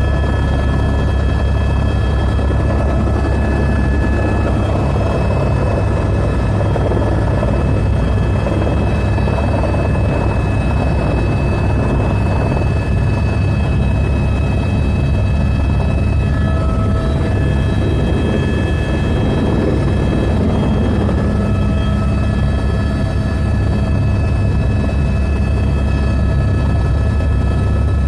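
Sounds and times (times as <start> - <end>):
helicopter rotor and engine rumble: 0.0 - 28.0.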